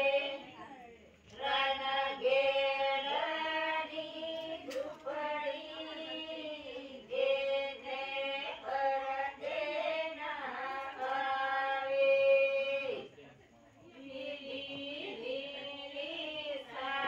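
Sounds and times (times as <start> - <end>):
women singing unaccompanied: 0.0 - 13.2, 13.8 - 17.0.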